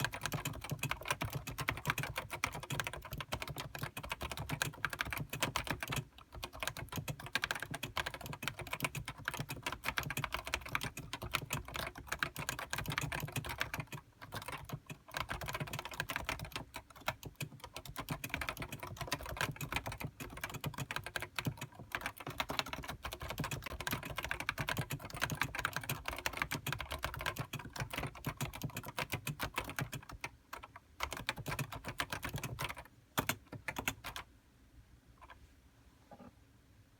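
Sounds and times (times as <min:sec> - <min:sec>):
fast keyboard typing: 0:00.0 - 0:34.3.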